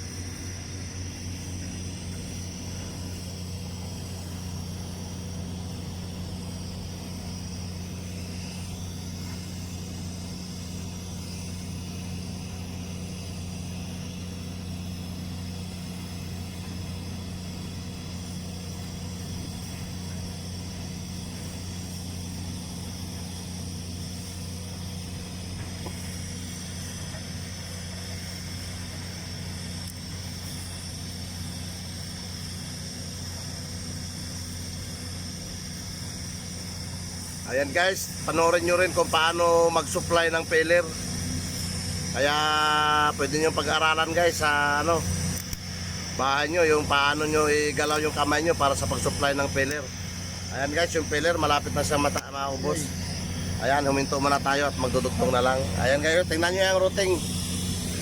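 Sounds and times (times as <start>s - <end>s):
welding arc buzzing and hissing: 0.0s - 58.0s.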